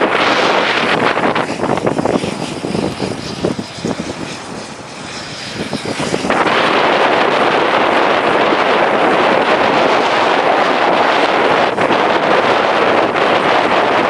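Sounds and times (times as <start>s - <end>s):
turboprop aircraft taxiing: 0.0s - 14.0s
wind buffeting microphone: 0.0s - 14.0s.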